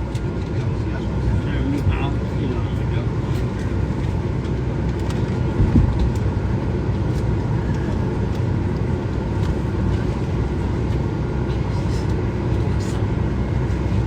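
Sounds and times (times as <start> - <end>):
airliner cabin hum: 0.0 - 14.0.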